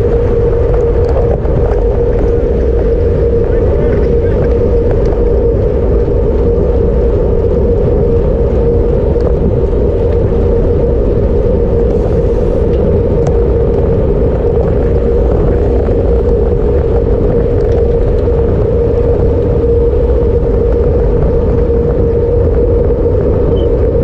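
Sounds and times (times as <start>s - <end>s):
bicycle tyres road rumble: 0.0s - 24.0s
wind rushing over microphone: 0.0s - 24.0s.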